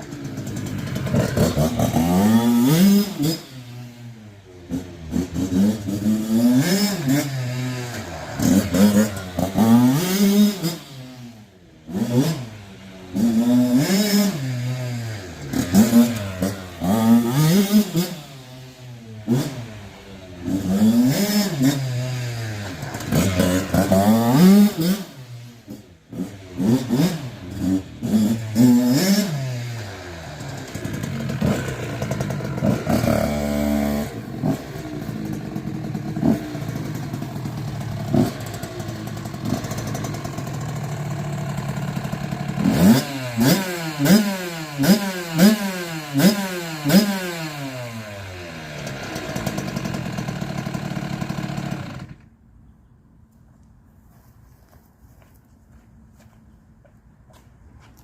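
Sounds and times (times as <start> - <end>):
two-stroke engine revving: 0.0 - 52.3.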